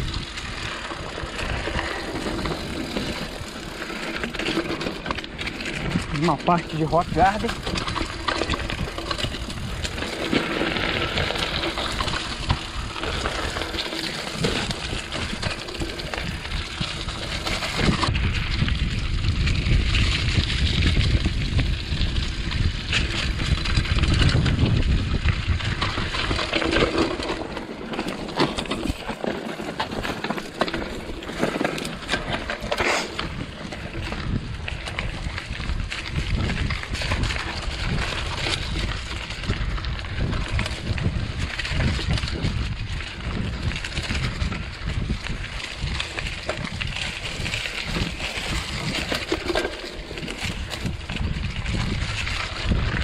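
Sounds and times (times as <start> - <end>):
bike rattling: 0.0 - 53.0
bike tyres over loose stones: 0.0 - 53.0.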